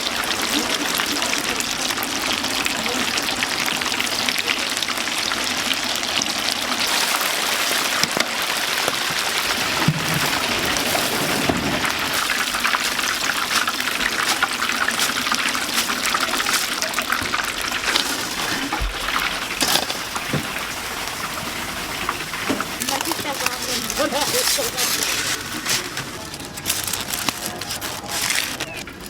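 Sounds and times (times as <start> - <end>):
deep-fryer oil sizzling: 0.0 - 29.0.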